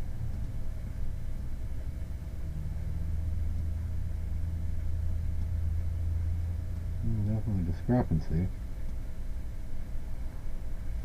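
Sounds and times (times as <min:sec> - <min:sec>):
mechanical hum and rumble: 0:00.0 - 0:11.0.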